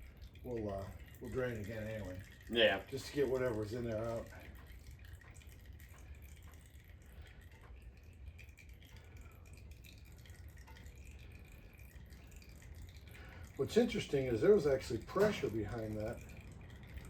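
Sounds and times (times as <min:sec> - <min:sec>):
low steady hum: 0:00.0 - 0:17.0
oil dripping into a pan: 0:00.0 - 0:17.0.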